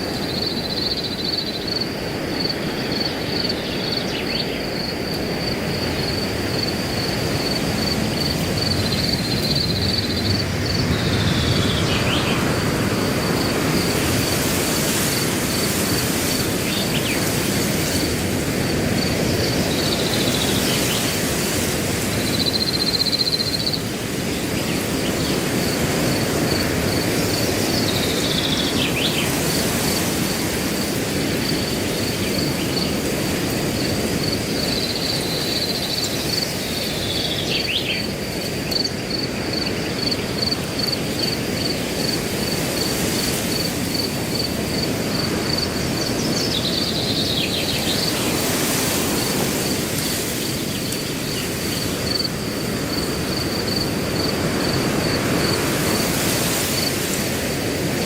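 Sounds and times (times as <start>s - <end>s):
cricket chirping: 0.0s - 58.0s
wind rushing through grass: 0.0s - 58.0s.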